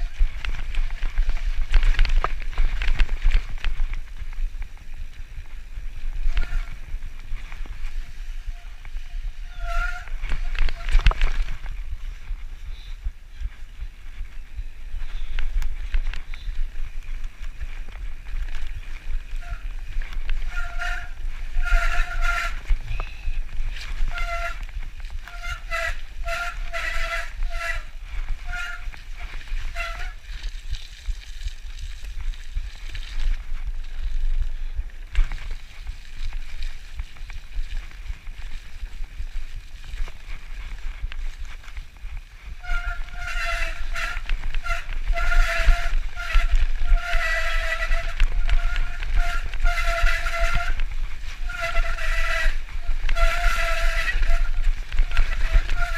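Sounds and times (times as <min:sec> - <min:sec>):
bike rumbling on dirt trail: 0:00.0 - 0:55.9
brakes squealing: 0:00.0 - 0:55.9
wind buffeting: 0:00.0 - 0:55.9.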